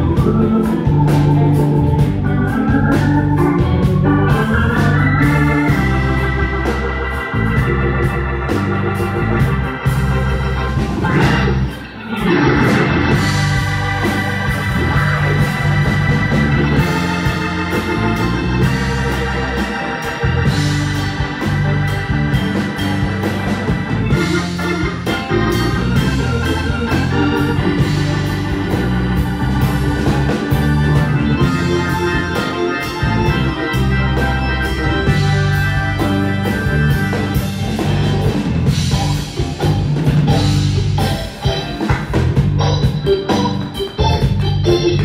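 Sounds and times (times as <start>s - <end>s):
live band playing: 0.0s - 45.0s
organ chords: 0.0s - 45.0s.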